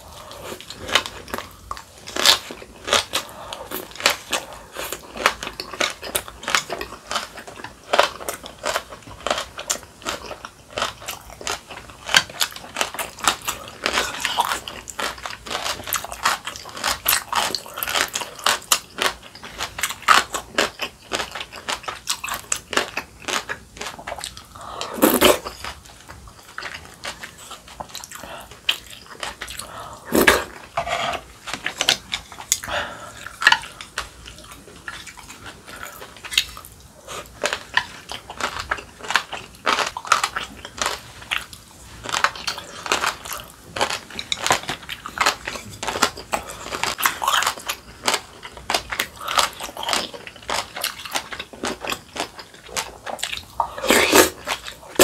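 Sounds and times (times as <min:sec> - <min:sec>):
chewing and biting: 0:00.1 - 0:55.0.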